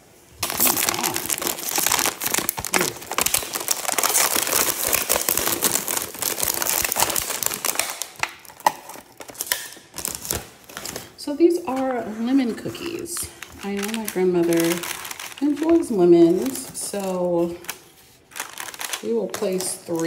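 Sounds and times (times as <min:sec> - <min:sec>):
foil bag crinkling: 0:00.4 - 0:20.0
plastic tray rustling: 0:00.4 - 0:20.0.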